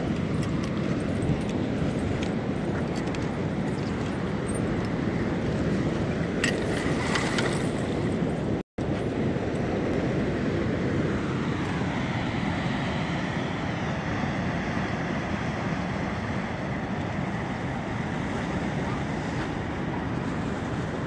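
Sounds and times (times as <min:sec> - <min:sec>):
moving sea water: 0:00.0 - 0:21.0
wind rushing on microphone: 0:00.0 - 0:21.0.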